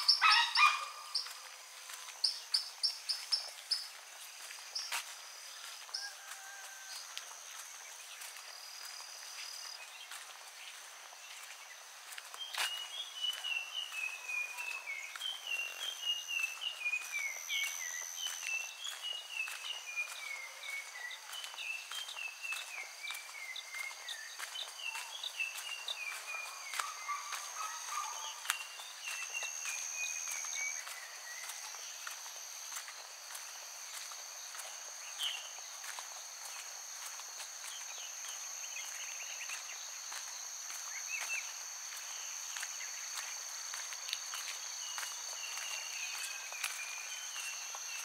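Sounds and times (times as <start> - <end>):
crickets trilling: 0.0 - 48.0
footsteps on a path: 0.0 - 48.0.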